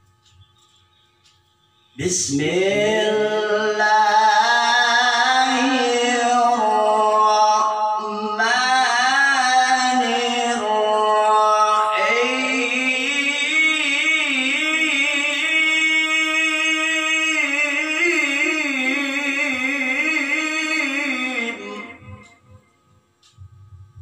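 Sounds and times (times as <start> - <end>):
man reciting melodically: 0.2 - 23.4.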